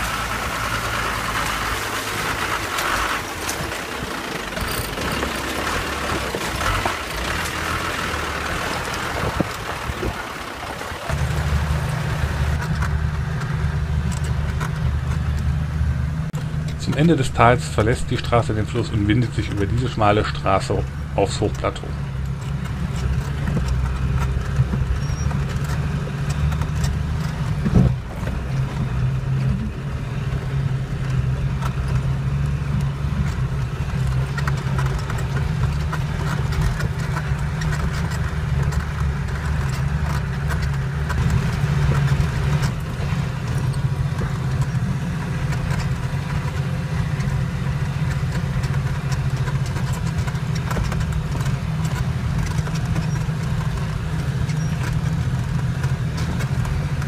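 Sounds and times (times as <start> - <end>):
vehicle engine droning: 0.0 - 57.0
vehicle rattles and knocks: 0.0 - 57.0.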